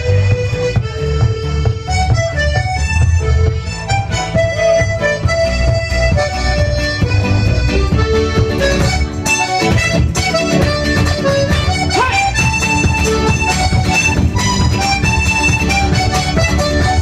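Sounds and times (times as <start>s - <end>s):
accordion melody: 0.0s - 17.0s
strummed acoustic guitar: 0.0s - 17.0s.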